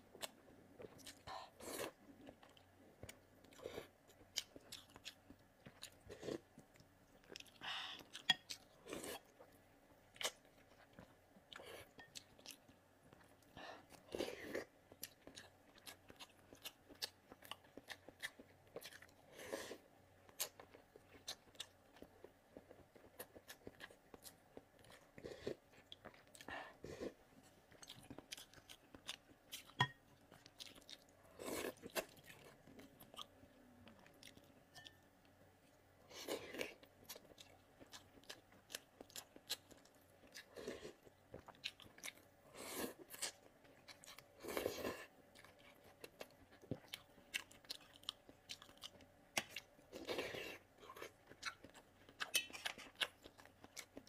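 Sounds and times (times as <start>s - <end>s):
chewing: 0.2s - 54.0s.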